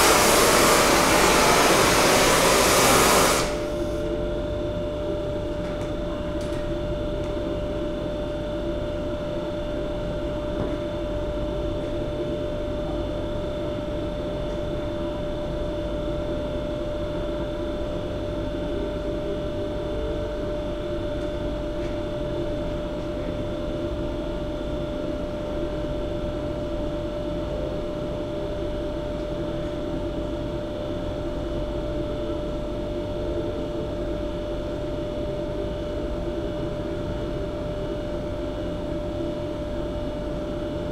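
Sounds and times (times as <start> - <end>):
electric fan whirring: 0.0 - 40.9.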